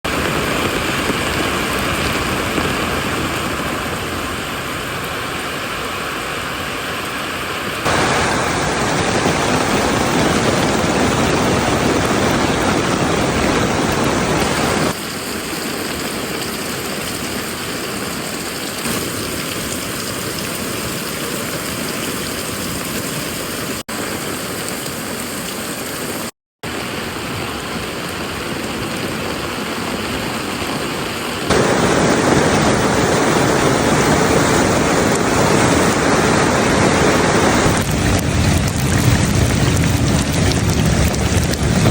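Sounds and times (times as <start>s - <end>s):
steady rain hissing: 0.1s - 41.9s.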